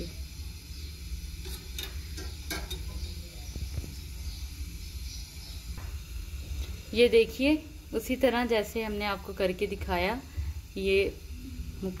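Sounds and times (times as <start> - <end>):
hot knife sizzling and ticking: 0.0 - 12.0
low steady hum: 0.0 - 12.0.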